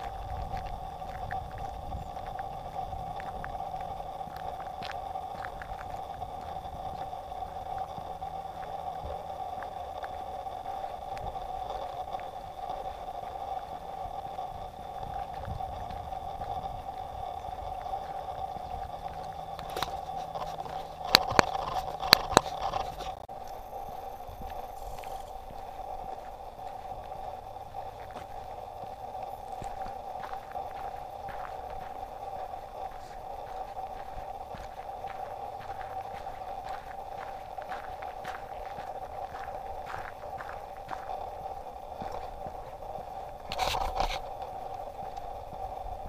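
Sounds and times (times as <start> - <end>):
vehicle hum and rumble: 0.0 - 46.0.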